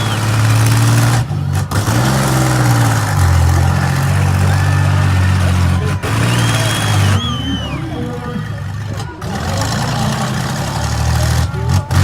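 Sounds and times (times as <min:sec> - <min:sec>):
minivan engines revving: 0:00.0 - 0:12.0.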